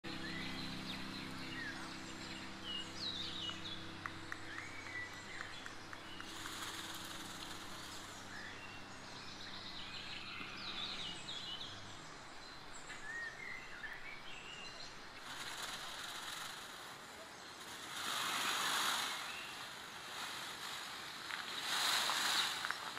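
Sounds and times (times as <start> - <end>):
small birds chirping: 0.0 - 22.9
steady low hum: 0.0 - 22.9
soft rustling hiss: 0.2 - 22.9.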